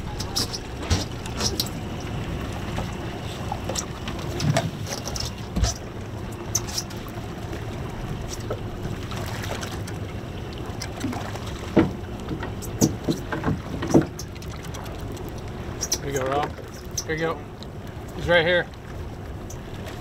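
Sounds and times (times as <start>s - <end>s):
gear knocking on boat: 0.0s - 7.0s, 8.0s - 17.4s
outboard motors rumbling: 0.0s - 20.0s
water noise: 0.0s - 20.0s
wind: 0.0s - 20.0s.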